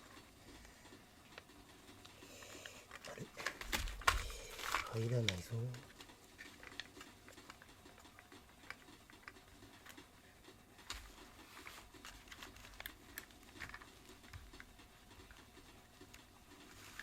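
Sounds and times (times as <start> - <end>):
plastic parts clicking and tapping: 0.0 - 17.0.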